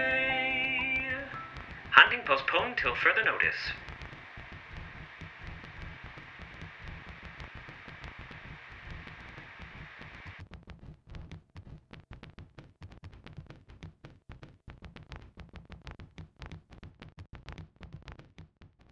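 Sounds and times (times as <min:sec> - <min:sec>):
crackling clicks and pops: 0:00.6 - 0:18.9.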